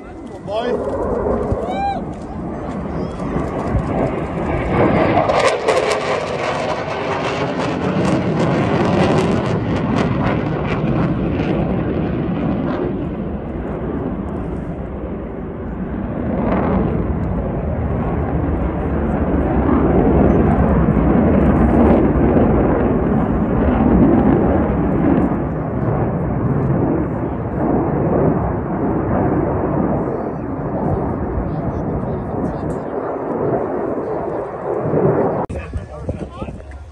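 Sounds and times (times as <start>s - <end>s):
jet engine roar: 0.0s - 36.9s.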